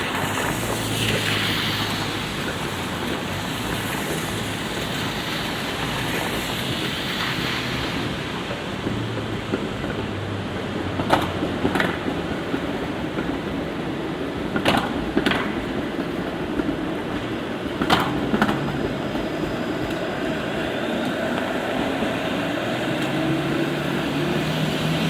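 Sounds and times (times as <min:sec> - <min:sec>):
city hum: 0:00.0 - 0:25.0
light rain: 0:00.0 - 0:25.0.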